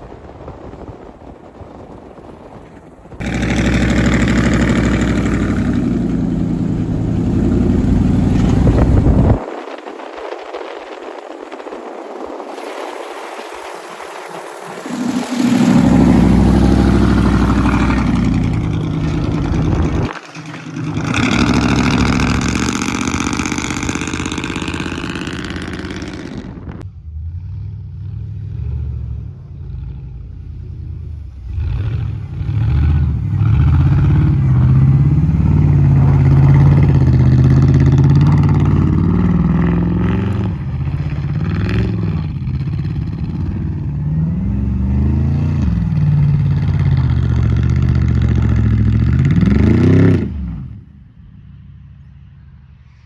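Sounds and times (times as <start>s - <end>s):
truck engines revving: 0.0s - 10.4s, 12.5s - 52.9s.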